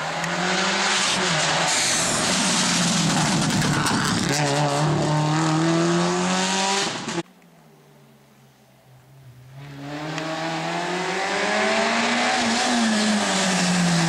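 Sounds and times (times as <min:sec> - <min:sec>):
rally car accelerating away: 0:00.0 - 0:07.2, 0:09.5 - 0:14.0
rally car engine at high revs: 0:00.0 - 0:07.2, 0:09.6 - 0:14.0.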